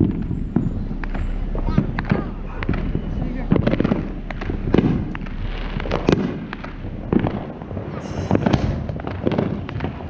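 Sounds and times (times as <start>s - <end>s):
firecracker pops crackling: 0.0s - 10.0s
loud firework bangs: 0.0s - 10.0s.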